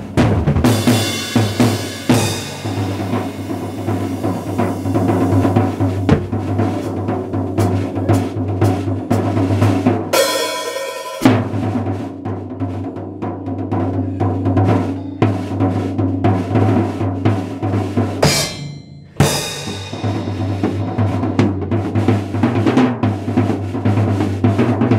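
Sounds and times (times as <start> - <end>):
drum solo: 0.0 - 24.9
loud drum hit: 0.0 - 24.9.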